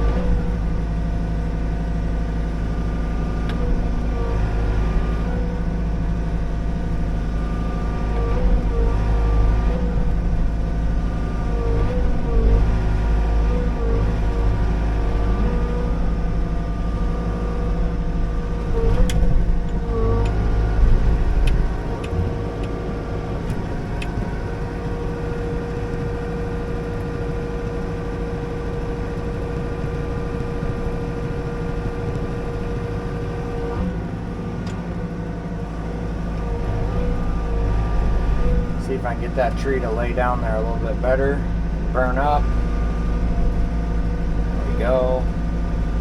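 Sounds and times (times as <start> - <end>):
excavator diesel engine running: 0.0 - 46.0
heavy low rumble: 0.0 - 46.0
steady whine: 0.0 - 46.0.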